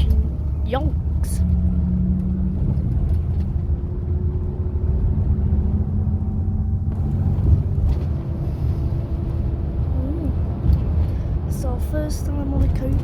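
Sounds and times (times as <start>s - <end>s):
coach engine hum: 0.0s - 13.0s
road rumble: 0.0s - 13.0s.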